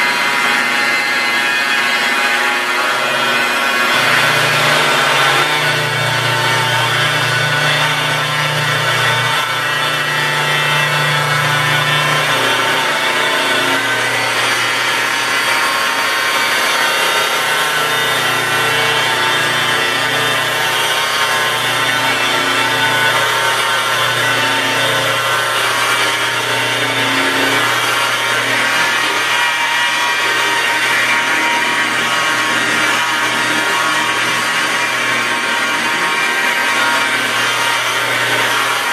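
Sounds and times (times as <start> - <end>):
electric buffer running: 0.0 - 38.9.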